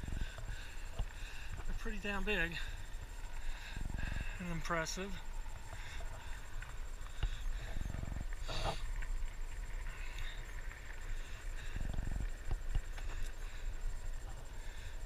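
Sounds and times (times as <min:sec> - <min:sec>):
bike rolling on dirt trail: 0:00.0 - 0:15.0
wind rumbling on microphone: 0:00.0 - 0:15.0.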